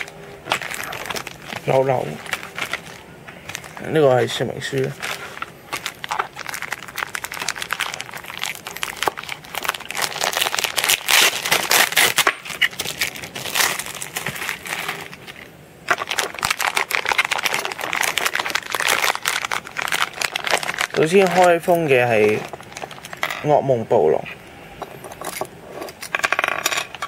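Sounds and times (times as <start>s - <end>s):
plastic packaging crinkling: 0.0s - 23.3s.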